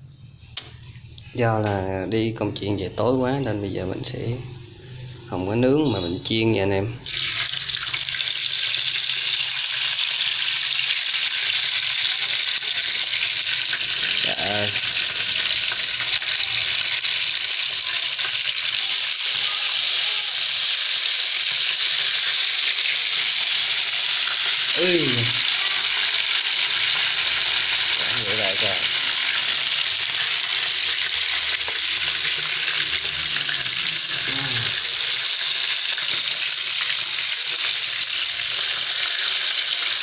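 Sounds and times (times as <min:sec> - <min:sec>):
meat sizzling in hot oil: 0:07.1 - 0:40.0.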